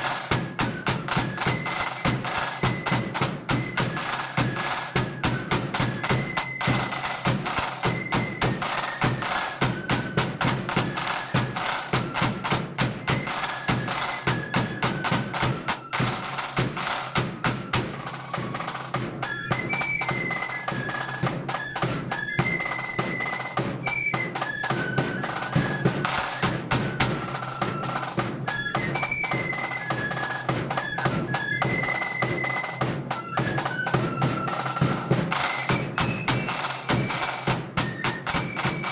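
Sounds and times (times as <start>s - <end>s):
flute melody: 0.0s - 38.9s
snare drum rolls: 0.0s - 38.9s.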